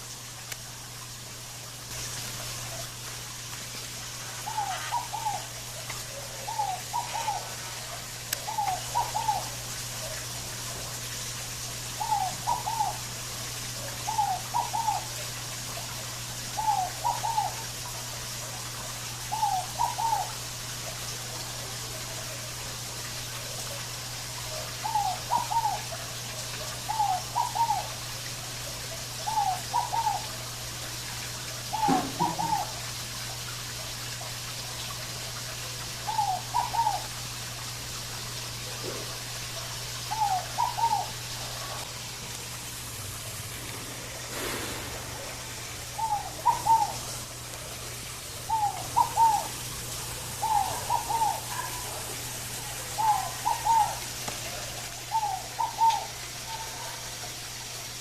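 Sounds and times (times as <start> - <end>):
steady hiss: 0.0 - 56.6
dove hollow cooing: 4.3 - 21.0, 21.6 - 30.8, 31.5 - 33.2, 34.8 - 57.6.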